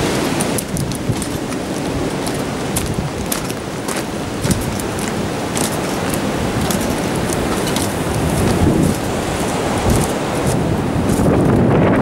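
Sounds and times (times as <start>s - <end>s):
wind rushing on microphone: 0.0s - 12.0s.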